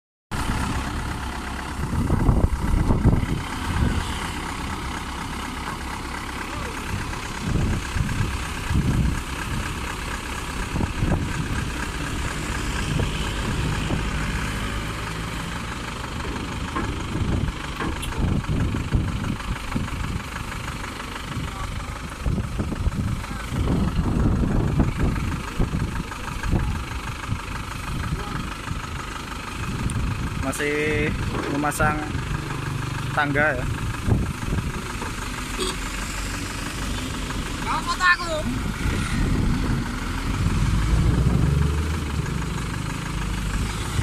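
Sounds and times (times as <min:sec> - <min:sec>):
diesel engine idling: 0:00.3 - 0:44.0.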